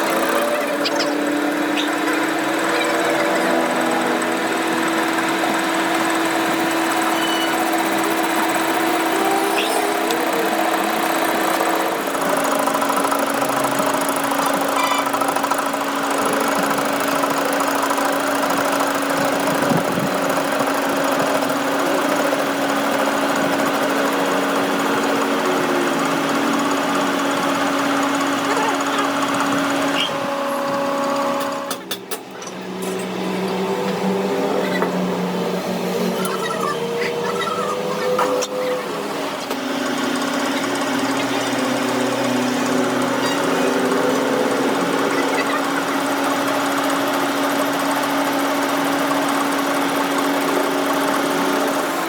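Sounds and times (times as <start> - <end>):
power tool running: 0.0 - 52.0.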